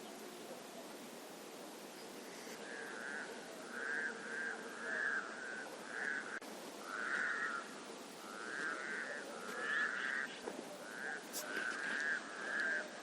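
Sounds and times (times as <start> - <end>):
frogs calling in a chorus: 2.2 - 13.0.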